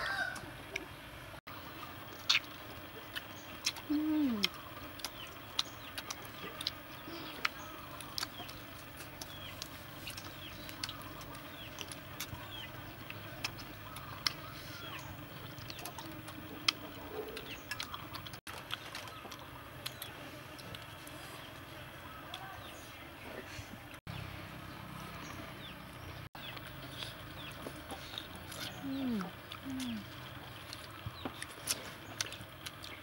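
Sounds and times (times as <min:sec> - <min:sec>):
birds chirping: 0:00.7 - 0:33.0.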